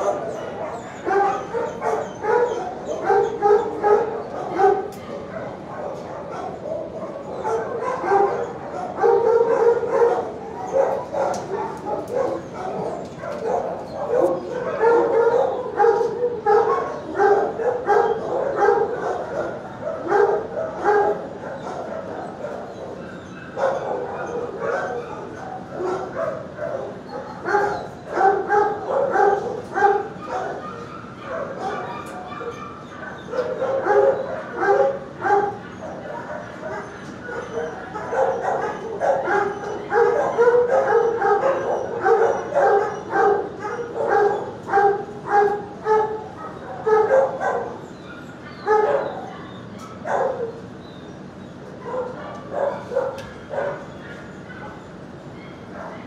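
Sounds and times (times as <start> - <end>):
dogs barking: 0.0 - 56.0.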